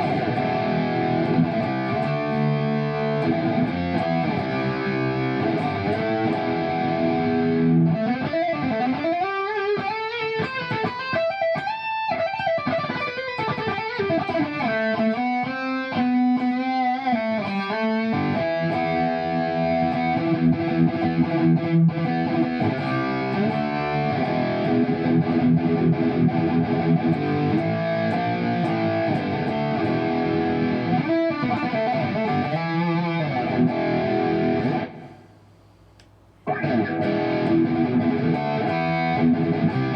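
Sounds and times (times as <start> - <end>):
electric guitar through an amp: 0.0 - 35.4, 36.0 - 39.9.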